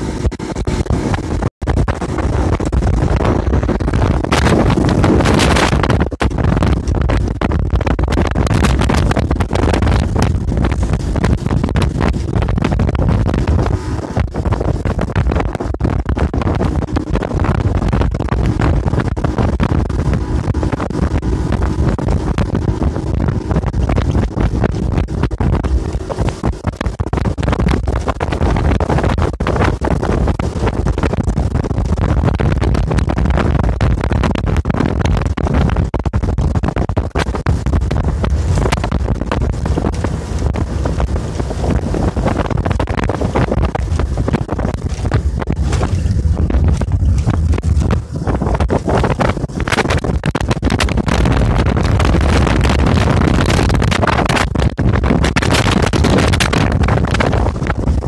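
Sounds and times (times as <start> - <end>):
outboard motor running: 0.0 - 33.9, 34.6 - 58.0
wind buffeting microphone: 0.0 - 58.0.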